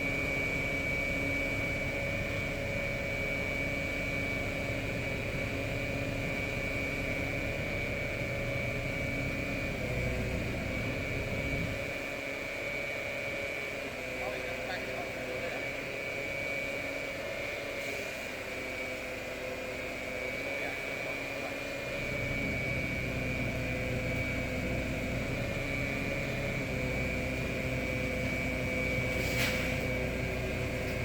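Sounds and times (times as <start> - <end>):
tram electrical whine and hum: 0.0 - 31.0.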